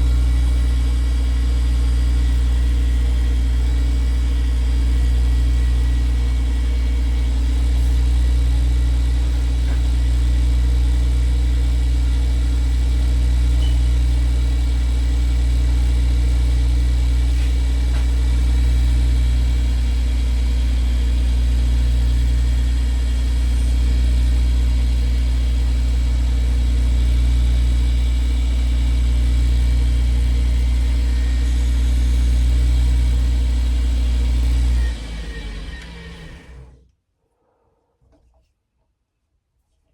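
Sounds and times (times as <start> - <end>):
lathe motor humming: 0.0 - 36.8.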